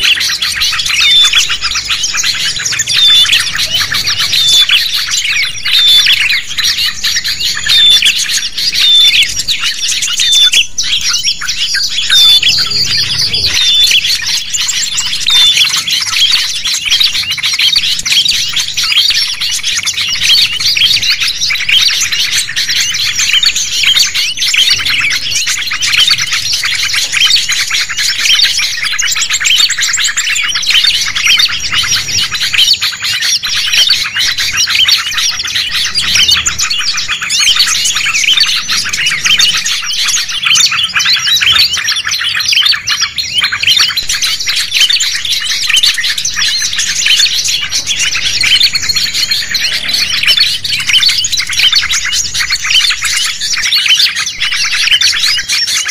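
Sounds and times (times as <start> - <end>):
songbirds chirping and twittering: 0.0 - 55.9.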